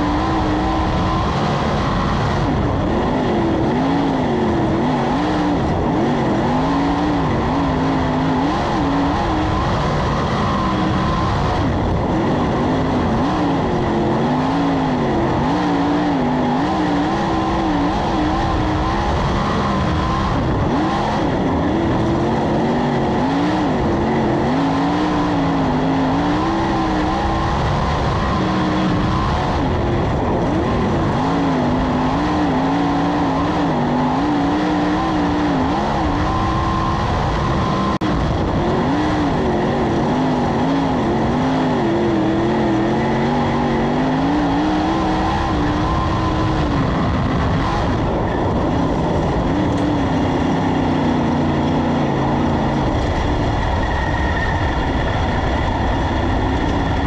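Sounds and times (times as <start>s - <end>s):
race car engine at speed: 0.0s - 57.0s
rush of noise: 0.0s - 57.0s.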